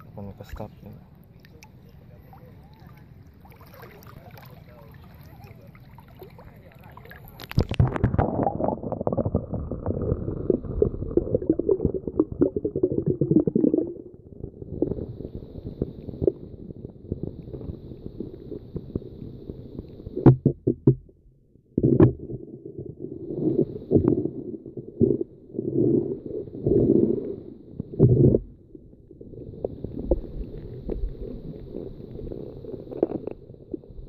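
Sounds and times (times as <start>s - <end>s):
underwater rumbling and gurgling: 1.4s - 34.0s.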